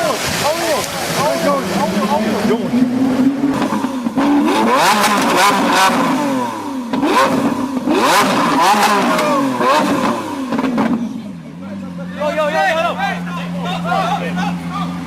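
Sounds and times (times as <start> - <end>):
car engine revving: 0.2 - 15.0.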